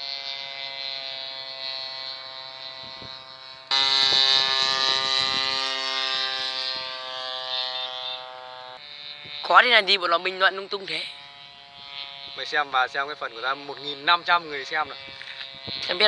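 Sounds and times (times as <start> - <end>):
model airplane engine buzzing: 0.0 - 16.0.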